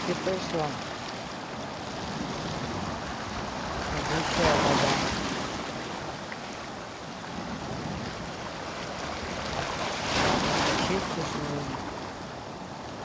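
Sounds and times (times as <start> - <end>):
sea waves washing against rocks: 0.0 - 13.0.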